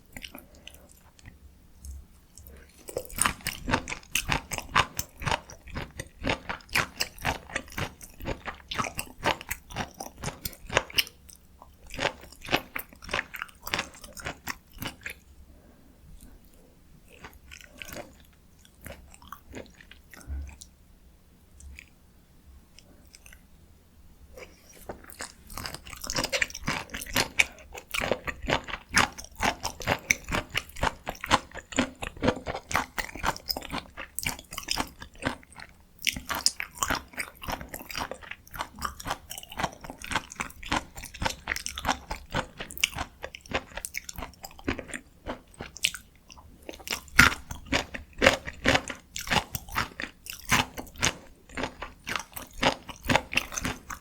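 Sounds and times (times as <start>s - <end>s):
chewing and mouth sounds: 0.0s - 20.8s, 21.5s - 22.0s, 22.7s - 23.5s, 24.3s - 54.0s.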